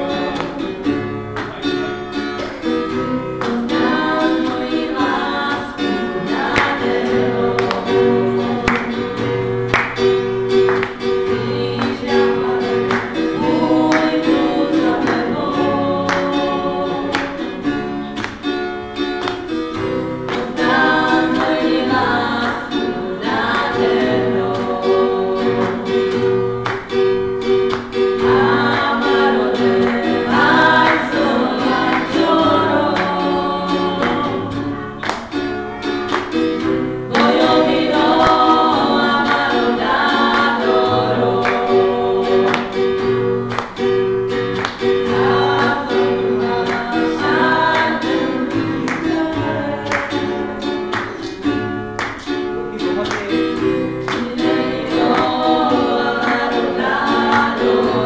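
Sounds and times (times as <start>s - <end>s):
girls singing into microphones: 0.0s - 1.4s, 2.2s - 52.6s, 53.6s - 58.0s
strummed acoustic guitar: 0.0s - 58.0s.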